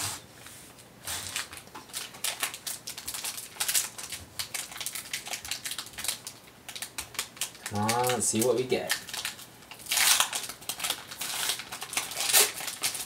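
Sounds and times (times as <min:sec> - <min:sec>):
foil wrapper crinkling: 0:01.0 - 0:13.0.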